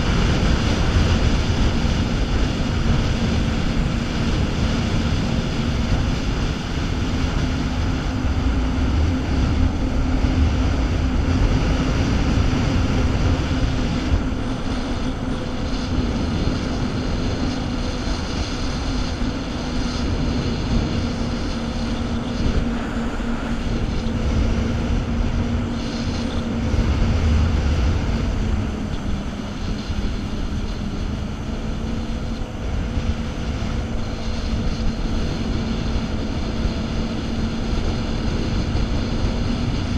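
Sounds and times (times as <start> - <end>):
jet ski engine droning: 0.0 - 39.9
wind buffeting microphone: 0.0 - 39.9.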